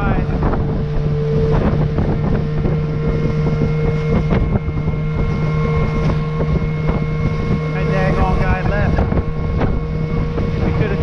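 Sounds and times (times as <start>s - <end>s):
hull knocking on waves: 0.0s - 11.0s
outboard motor running: 0.0s - 11.0s
wind buffeting microphone: 0.0s - 11.0s.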